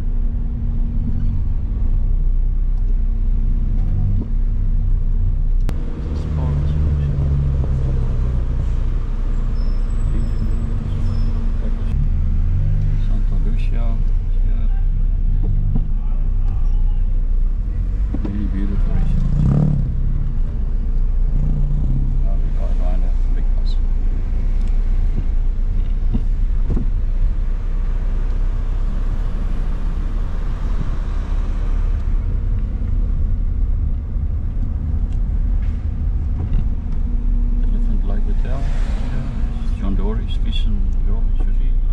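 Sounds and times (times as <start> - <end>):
car engine hum: 0.0 - 41.9
road noise rumble: 0.0 - 41.9.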